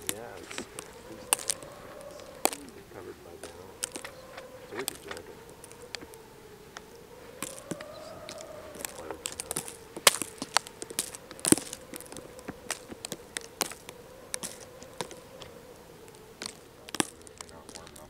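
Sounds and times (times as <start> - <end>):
faint steady hum: 0.0 - 18.0
sharp clicks and crackles: 0.0 - 18.0.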